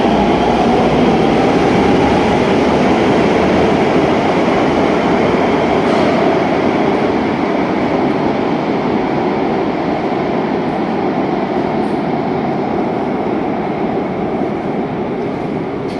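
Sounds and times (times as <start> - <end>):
train rolling rumble: 0.0 - 15.9.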